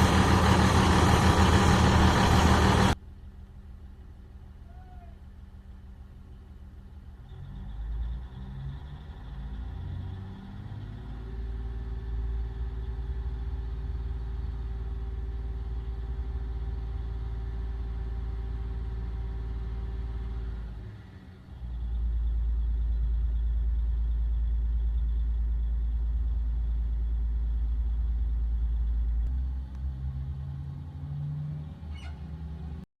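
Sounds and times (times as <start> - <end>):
diesel truck engine rumbling: 0.0 - 32.9.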